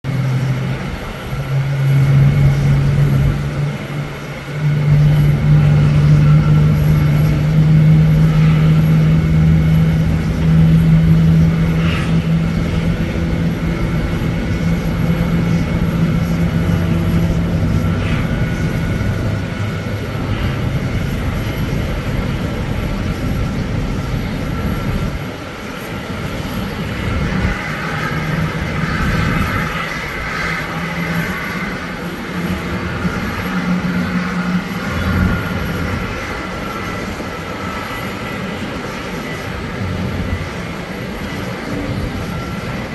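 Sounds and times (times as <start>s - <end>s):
high engine whine: 0.0s - 42.9s
jet engine low drone: 0.0s - 42.9s.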